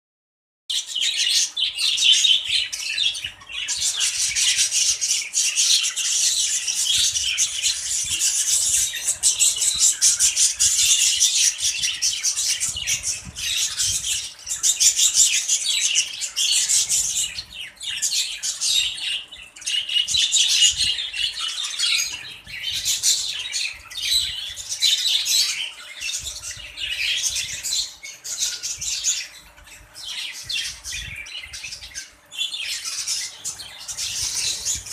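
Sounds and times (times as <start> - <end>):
budgerigars chattering and squawking: 0.7 - 34.9.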